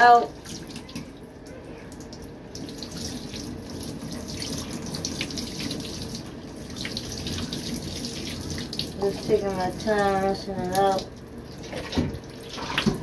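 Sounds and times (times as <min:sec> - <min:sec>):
water splashing into a basin: 0:00.0 - 0:13.0.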